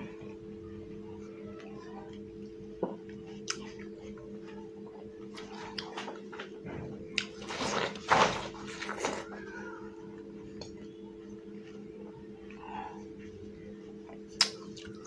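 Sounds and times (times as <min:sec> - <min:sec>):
low hum: 0:00.0 - 0:15.0
watermelon chewing: 0:00.0 - 0:15.0.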